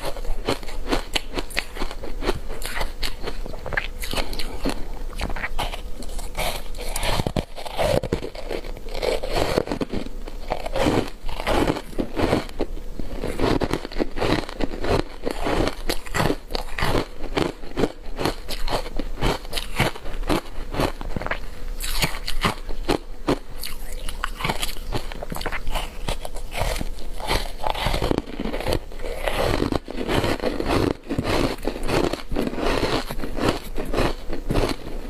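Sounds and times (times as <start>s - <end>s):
ice being chewed crunching: 0.0s - 35.0s.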